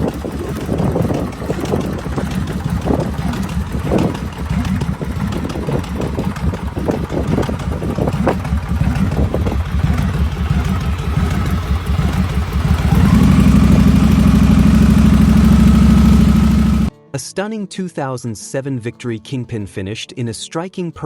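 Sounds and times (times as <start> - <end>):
motorcycle engine idling and revving: 0.0 - 16.9.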